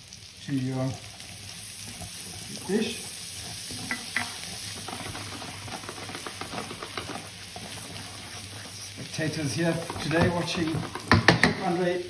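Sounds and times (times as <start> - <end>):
onions sizzling in a frying pan: 0.0 - 12.0
wooden spoon scraping a pan: 1.1 - 11.9.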